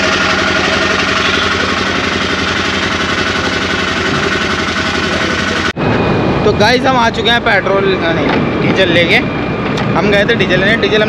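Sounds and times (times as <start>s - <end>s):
fuel pump mechanical pulsing: 0.0s - 11.0s.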